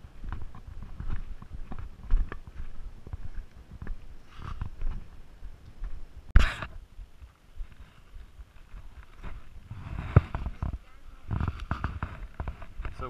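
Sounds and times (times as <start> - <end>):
footsteps on dirt trail: 0.0 - 13.0.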